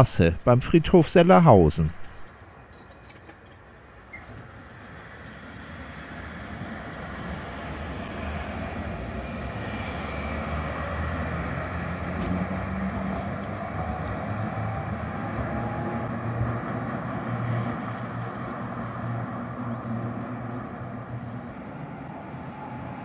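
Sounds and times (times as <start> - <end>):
vehicle rumble: 1.8 - 23.0.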